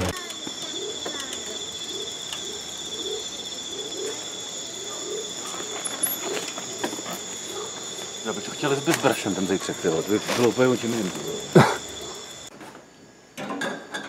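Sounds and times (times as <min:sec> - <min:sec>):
low rising calls: 0:00.0 - 0:12.5
insects trilling: 0:00.0 - 0:13.4.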